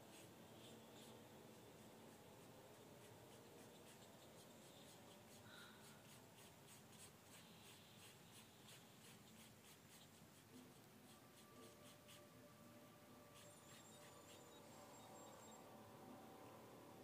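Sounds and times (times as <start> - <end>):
pencil scratching on paper: 0.0 - 12.5, 13.2 - 15.6.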